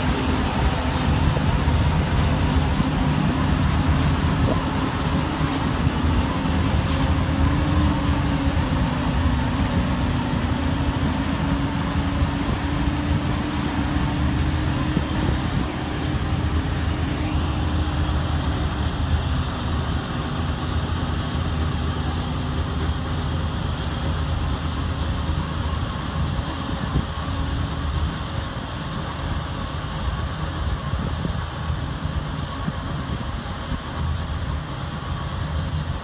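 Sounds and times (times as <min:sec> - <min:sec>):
harvester and tractor engine rumble: 0:00.0 - 0:36.0.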